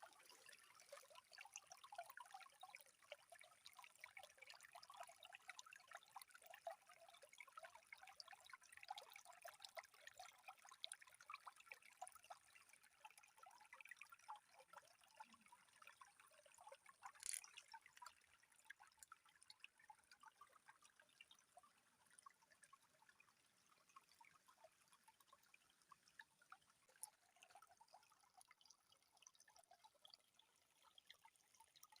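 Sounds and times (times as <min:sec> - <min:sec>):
water trickling and dripping: 0:00.0 - 0:32.0.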